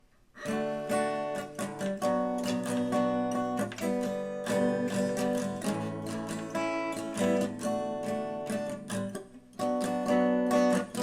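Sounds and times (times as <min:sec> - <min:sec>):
acoustic guitar strumming chords: 0:00.4 - 0:11.0.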